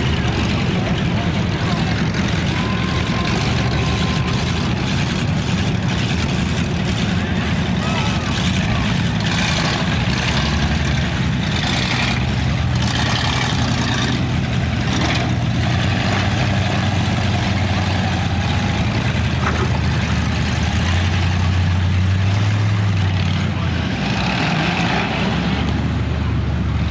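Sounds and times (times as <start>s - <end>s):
car engines droning: 0.0s - 26.9s.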